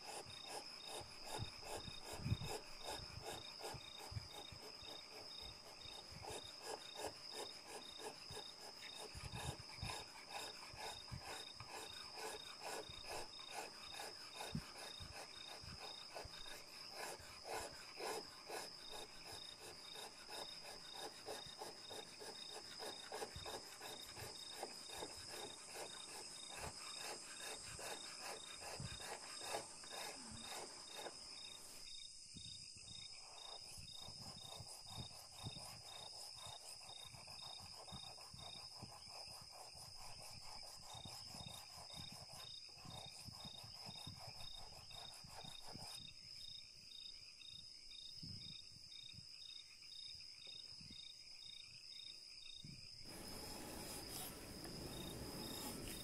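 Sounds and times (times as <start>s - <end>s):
carving blade cutting wood: 0.0s - 31.9s, 33.2s - 46.1s, 53.1s - 56.0s
crickets chirring: 0.0s - 56.0s.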